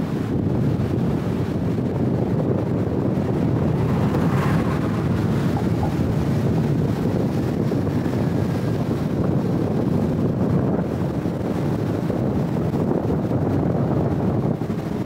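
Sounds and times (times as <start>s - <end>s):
car road noise: 0.0s - 15.0s
wind on microphone: 0.0s - 15.0s.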